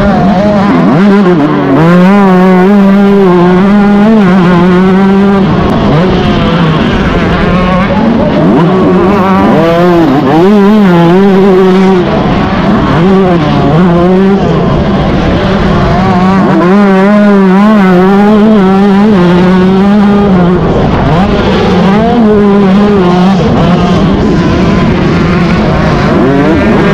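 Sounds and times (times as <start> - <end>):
motocross engine revving: 0.0 - 26.9.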